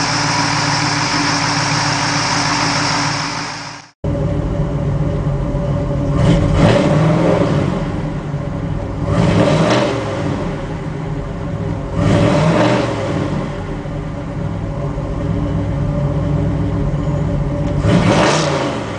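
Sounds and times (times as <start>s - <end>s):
vee-eight engine idling and revving: 0.0s - 18.9s.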